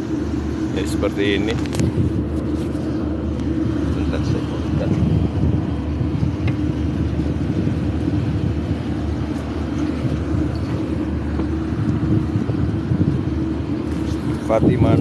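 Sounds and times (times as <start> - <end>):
churning wake water: 0.0 - 15.0
diesel engines rumbling: 0.0 - 15.0
wind: 0.0 - 15.0.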